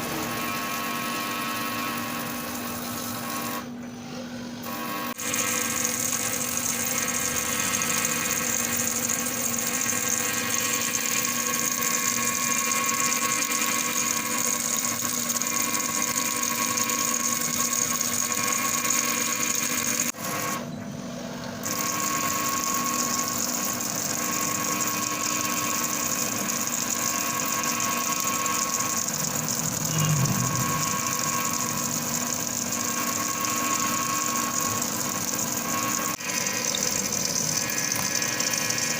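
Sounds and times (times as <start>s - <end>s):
machine humming with high hiss: 0.0s - 38.9s.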